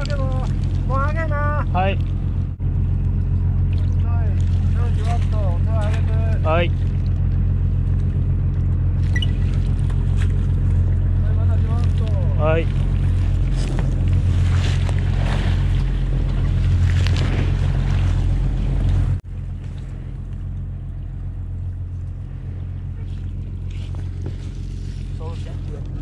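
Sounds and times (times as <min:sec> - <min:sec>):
water splashing: 0:00.0 - 0:01.3, 0:02.0 - 0:26.0
boat engine drone: 0:00.0 - 0:26.0.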